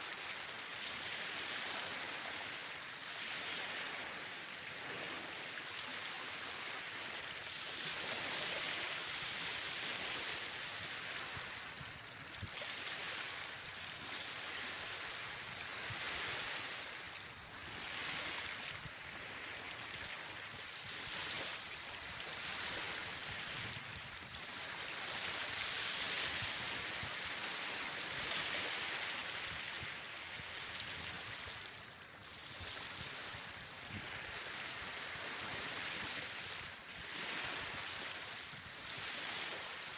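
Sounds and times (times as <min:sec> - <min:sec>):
waves washing on beach: 0:00.0 - 0:39.9.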